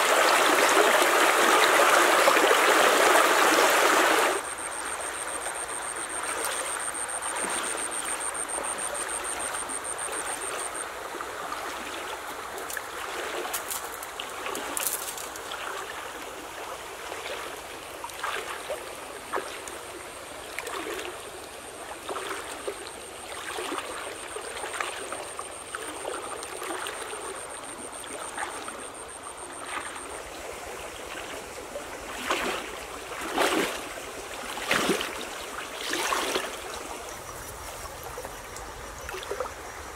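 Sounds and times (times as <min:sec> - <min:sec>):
water splashing around wading legs: 0:00.0 - 0:10.8, 0:11.5 - 0:39.5
shallow stream running: 0:00.0 - 0:39.9.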